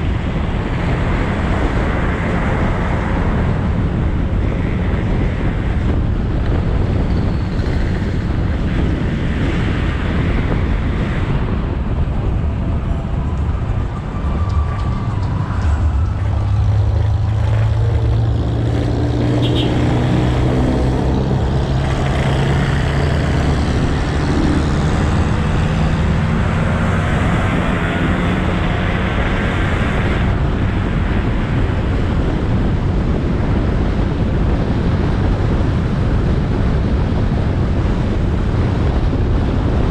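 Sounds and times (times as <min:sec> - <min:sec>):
motorcycle engine hum: 0:00.0 - 0:39.8
road noise: 0:00.0 - 0:39.9
wind on microphone: 0:00.0 - 0:39.9.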